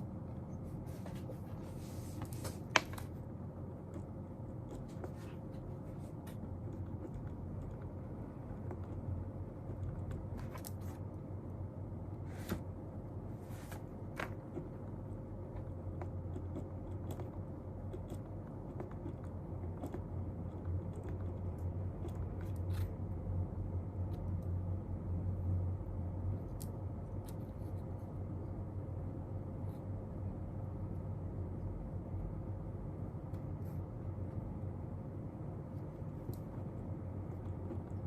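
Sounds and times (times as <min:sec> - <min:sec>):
room hum: 0:00.0 - 0:38.0.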